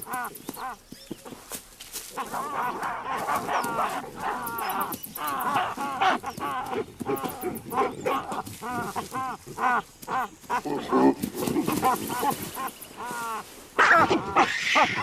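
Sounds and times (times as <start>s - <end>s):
baboons screaming and barking: 0.0s - 1.4s, 2.1s - 15.0s.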